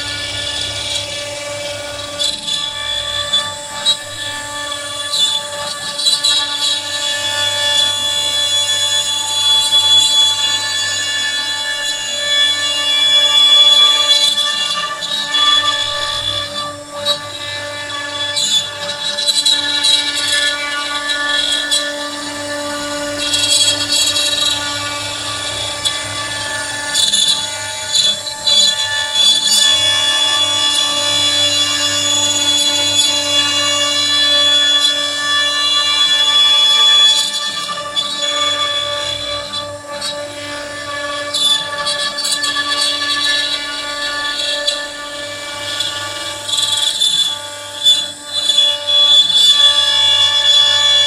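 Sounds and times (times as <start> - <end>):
cutter rasping wood: 0.0 - 51.0
router spindle whining: 0.0 - 51.0.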